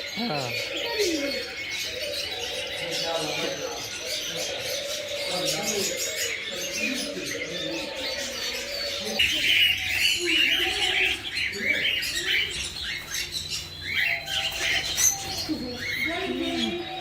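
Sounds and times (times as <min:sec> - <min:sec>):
caged birds calling: 0:00.0 - 0:17.0.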